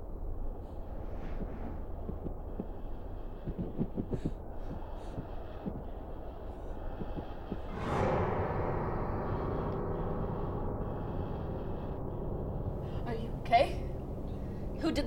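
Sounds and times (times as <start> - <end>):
low droning rumble: 0.0 - 15.0
soft low thuds: 0.8 - 14.8.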